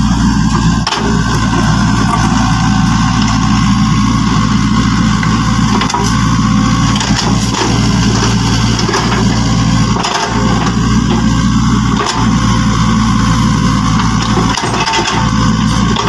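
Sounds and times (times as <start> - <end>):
engine idling hum: 0.0 - 16.0.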